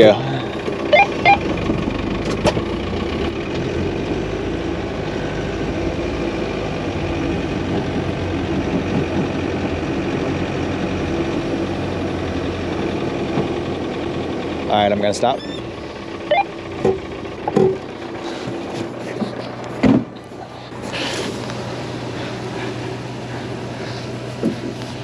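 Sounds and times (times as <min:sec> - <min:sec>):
truck engine running under load: 0:00.0 - 0:25.0.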